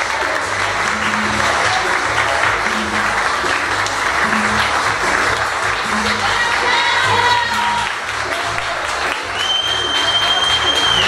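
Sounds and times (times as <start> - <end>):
background music with bass beat: 0.0 - 9.1
audience applauding: 0.0 - 11.0.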